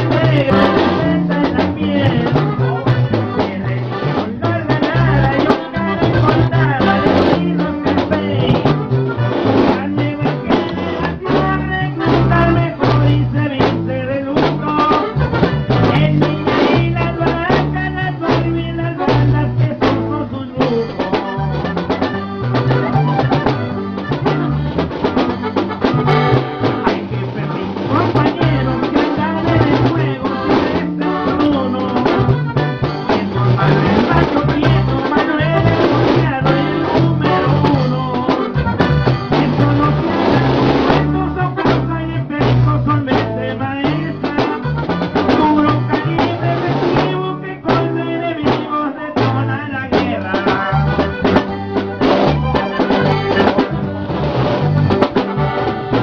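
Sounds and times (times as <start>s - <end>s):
upbeat band music: 0.0s - 56.0s.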